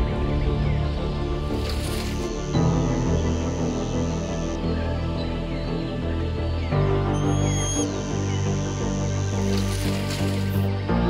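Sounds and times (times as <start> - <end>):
background music with held tones: 0.0 - 11.0.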